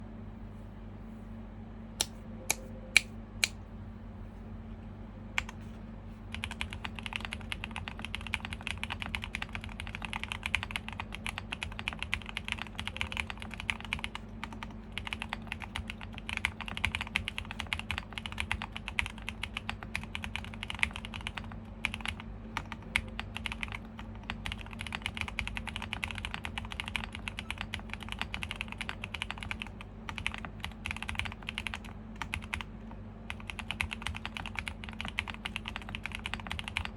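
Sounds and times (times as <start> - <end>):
typing on mechanical keyboard: 6.3 - 32.7, 33.3 - 36.9.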